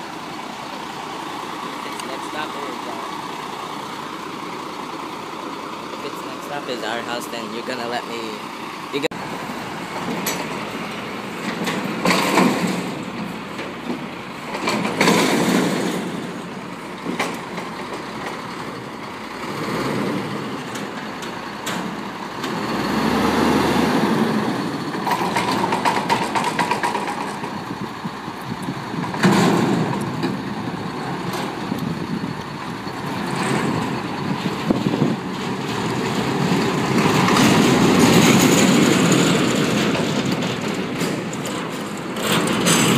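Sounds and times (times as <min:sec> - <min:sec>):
garbage truck engine: 0:00.0 - 0:42.9.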